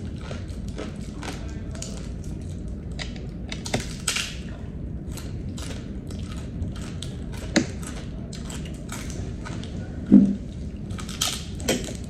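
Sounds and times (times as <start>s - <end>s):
crunching and chewing pork rinds: 0.0s - 12.0s.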